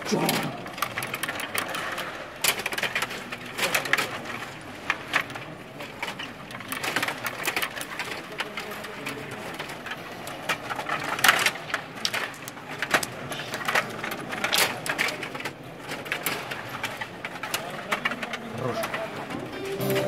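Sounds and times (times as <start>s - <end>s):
table hockey rods clicking and clattering: 0.0s - 20.0s.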